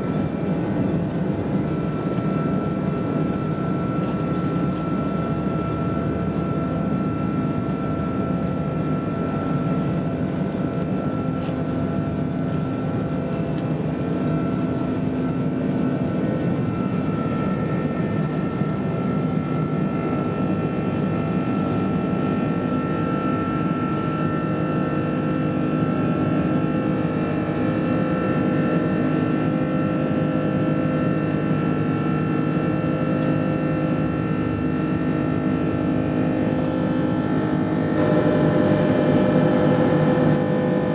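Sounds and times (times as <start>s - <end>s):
high engine whine: 0.0s - 40.9s
jet engine rush: 0.0s - 40.9s.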